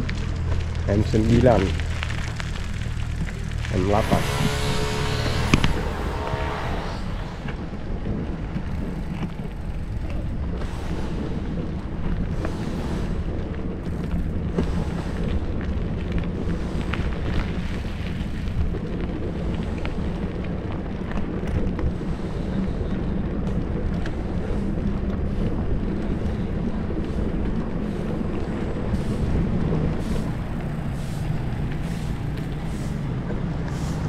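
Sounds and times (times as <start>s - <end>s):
bicycle clicks and knocks over bumps: 0.0s - 6.0s, 7.4s - 34.0s
tyre noise on concrete road: 0.0s - 34.0s
wind rumbling on microphone: 0.0s - 34.0s.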